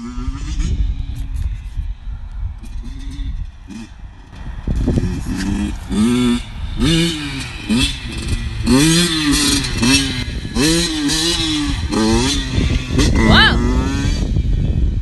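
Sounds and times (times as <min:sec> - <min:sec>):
dirt bike engine revving: 0:00.0 - 0:01.4, 0:02.6 - 0:15.0.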